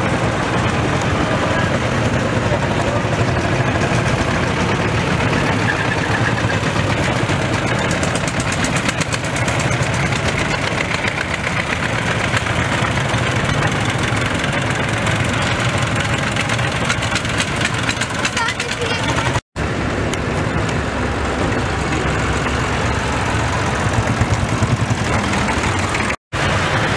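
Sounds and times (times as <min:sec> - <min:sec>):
tractor engines driving past: 0:00.0 - 0:26.9.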